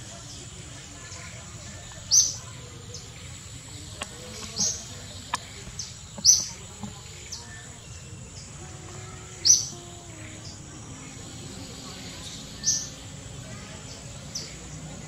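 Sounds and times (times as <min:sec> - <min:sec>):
bird chirping: 0:00.0 - 0:15.0
low background hiss: 0:00.0 - 0:15.0.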